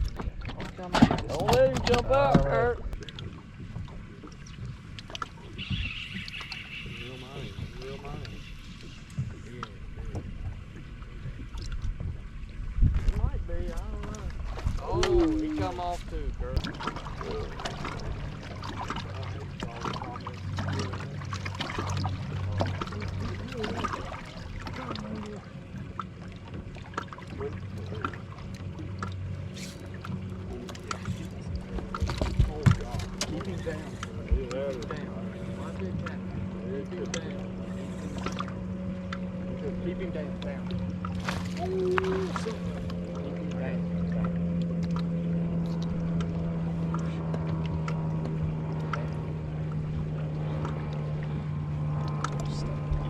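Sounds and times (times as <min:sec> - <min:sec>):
boat motor humming: 0:00.0 - 0:53.0.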